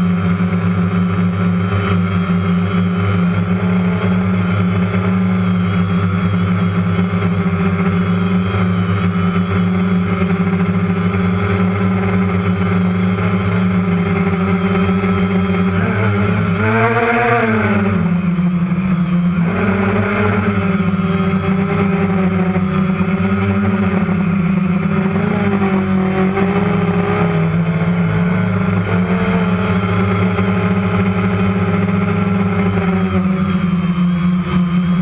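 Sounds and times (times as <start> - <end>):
drone propellers humming: 0.0 - 35.0.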